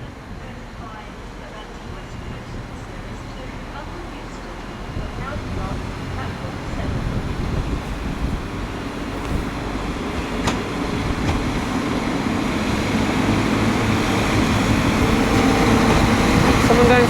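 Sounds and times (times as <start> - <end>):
train pulling out with rising hum: 0.0 - 17.0.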